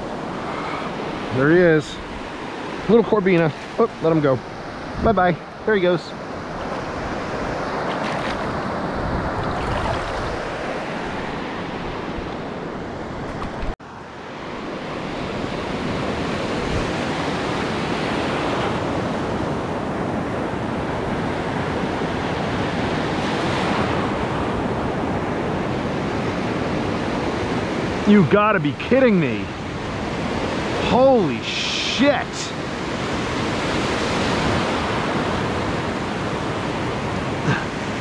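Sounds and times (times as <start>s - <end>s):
ocean surf breaking on beach: 0.0s - 38.0s.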